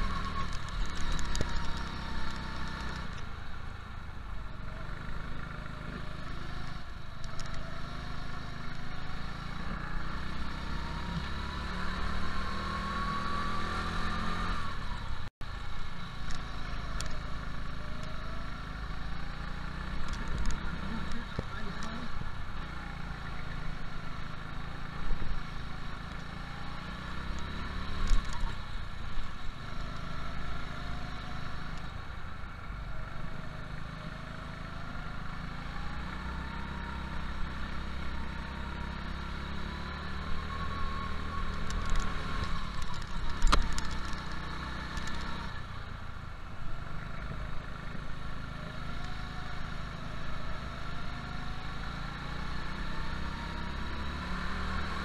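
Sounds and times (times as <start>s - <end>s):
go-kart engine revving: 0.0s - 3.2s, 4.6s - 15.0s, 16.1s - 28.9s, 32.7s - 45.9s, 46.6s - 55.0s.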